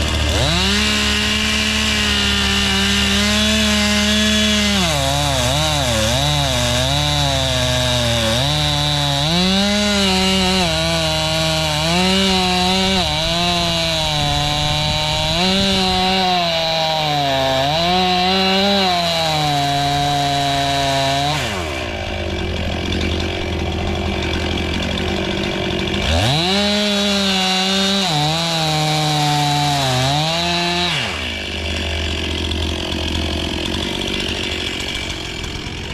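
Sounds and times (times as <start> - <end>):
chainsaw cutting wood: 0.0 - 35.9.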